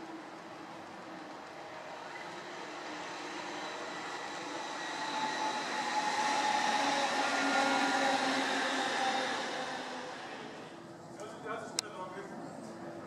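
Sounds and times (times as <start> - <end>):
tram wheels rolling on rails: 0.0 - 11.4.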